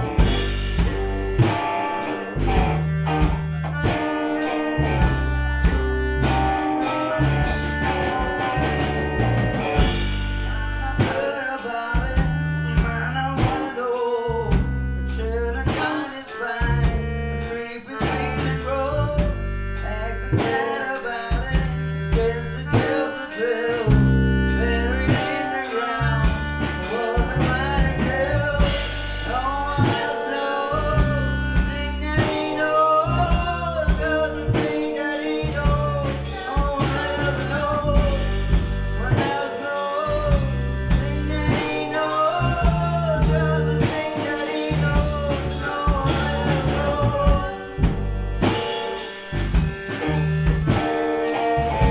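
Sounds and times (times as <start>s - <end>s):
bass guitar: 0.0s - 51.9s
drums steady beat: 0.0s - 51.9s
electric guitar: 0.0s - 51.9s
person singing: 0.0s - 51.9s.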